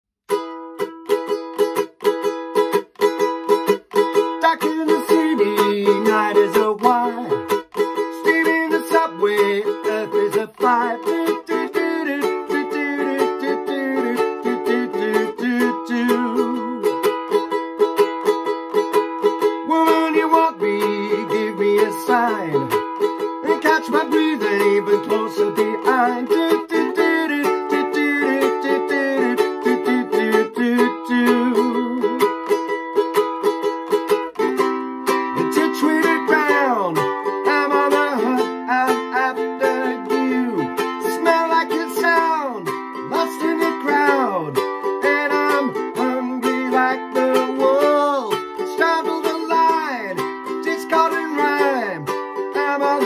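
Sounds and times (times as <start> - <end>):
ukulele strumming: 0.3 - 53.0
man singing: 4.1 - 17.5, 19.4 - 32.7, 35.3 - 53.0.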